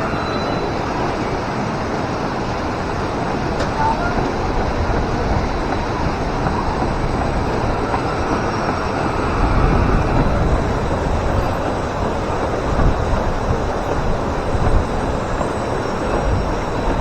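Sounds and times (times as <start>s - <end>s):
churning water rushing: 0.0s - 17.0s.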